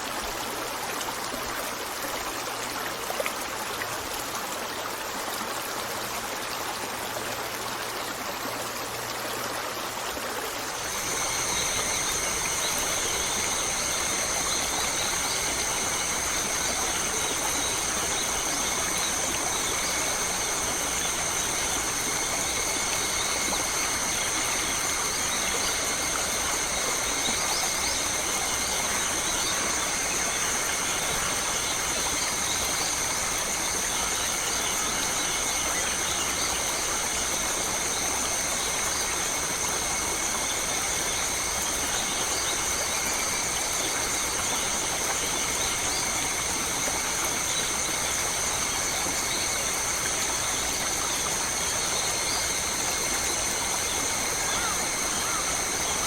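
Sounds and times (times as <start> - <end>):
water trickling and rushing: 0.0 - 56.0.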